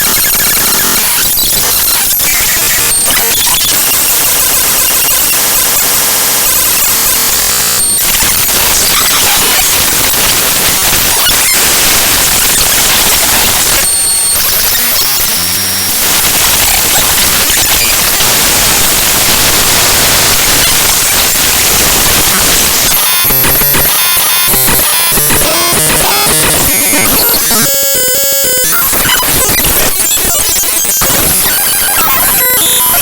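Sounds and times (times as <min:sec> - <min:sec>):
harsh static-like noise: 0:00.0 - 0:33.0.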